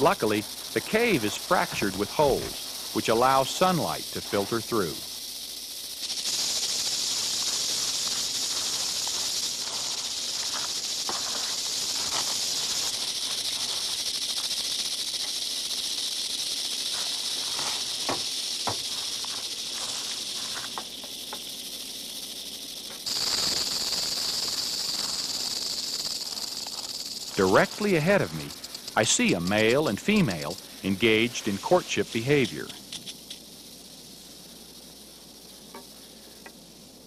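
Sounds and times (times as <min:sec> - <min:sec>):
rattlesnakes rattling: 0:00.0 - 0:37.0.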